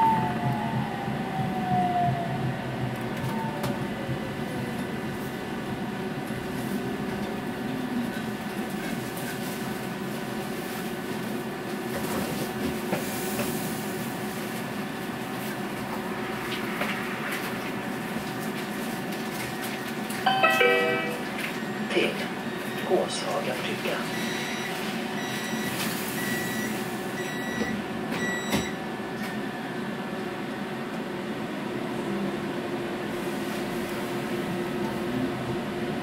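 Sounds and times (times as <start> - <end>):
tram motor whine: 0.0 - 36.0.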